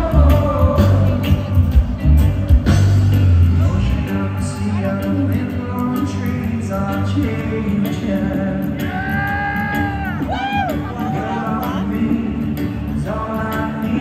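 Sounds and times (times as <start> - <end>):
person singing: 0.0 - 14.0
reggae band playing live: 0.0 - 14.0.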